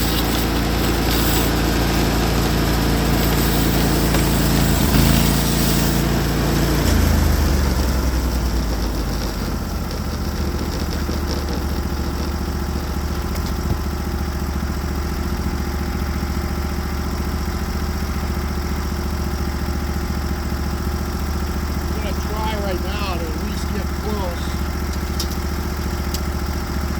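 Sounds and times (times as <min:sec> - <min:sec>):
sawmill engine running: 0:00.0 - 0:26.9.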